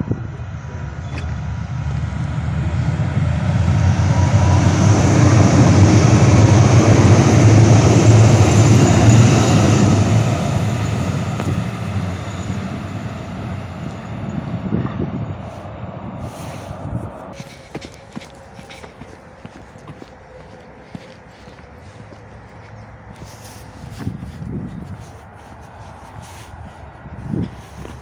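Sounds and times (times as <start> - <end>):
light rail train passing: 0.0 - 28.0.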